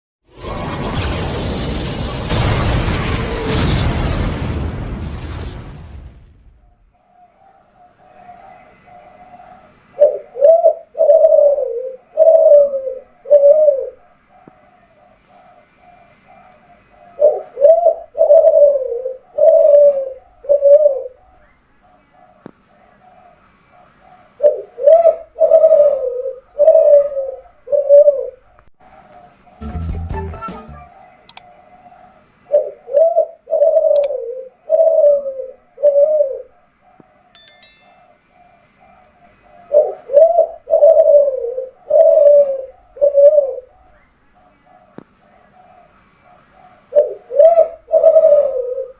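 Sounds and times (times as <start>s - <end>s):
dove cooing: 7.0s - 29.8s, 30.8s - 37.1s, 38.4s - 48.9s.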